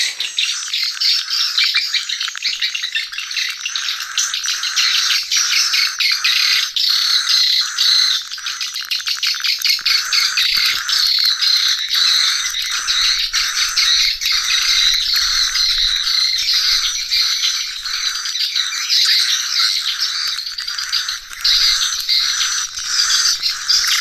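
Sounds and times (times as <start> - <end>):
swiftlets twittering: 2.8 - 24.0.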